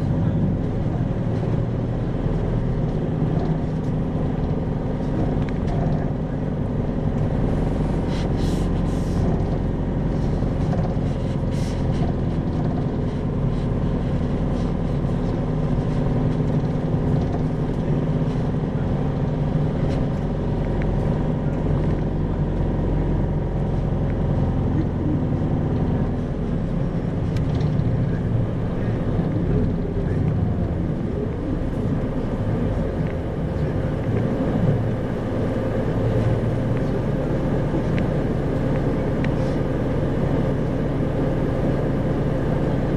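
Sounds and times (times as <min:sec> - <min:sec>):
bus diesel engine running: 0:00.0 - 0:42.9
road noise: 0:00.0 - 0:42.9.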